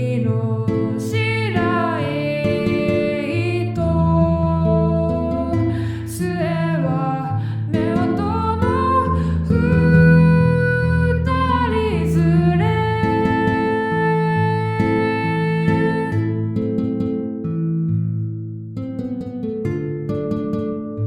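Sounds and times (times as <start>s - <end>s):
plucked guitar: 0.0s - 21.0s.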